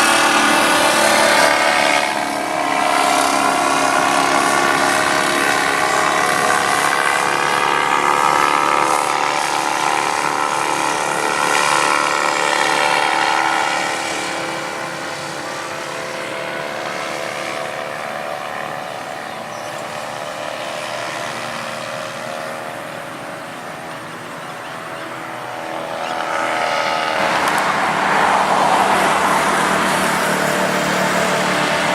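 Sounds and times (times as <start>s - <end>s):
model aircraft motor whining: 0.0s - 31.9s.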